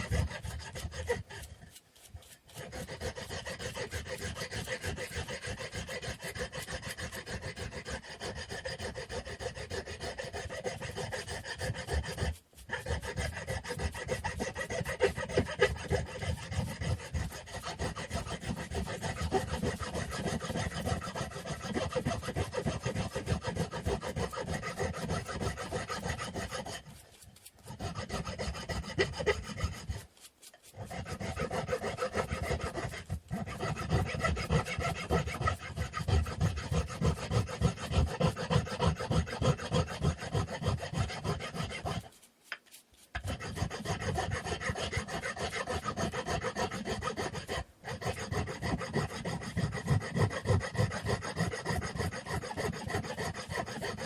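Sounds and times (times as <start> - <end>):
sanding wood by hand: 0.0 - 54.0.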